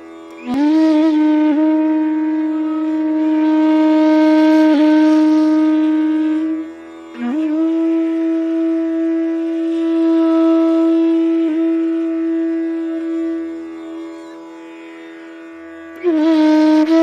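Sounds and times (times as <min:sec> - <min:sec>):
flute playing slow phrase: 0:00.0 - 0:17.0.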